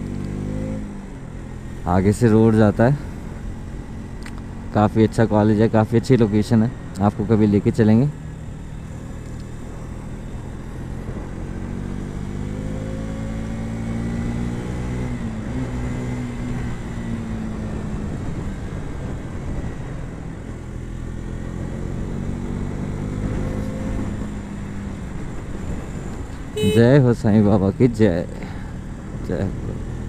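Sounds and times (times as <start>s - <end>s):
motorcycle engine revving: 0.0s - 30.0s
wind and road noise: 0.0s - 30.0s.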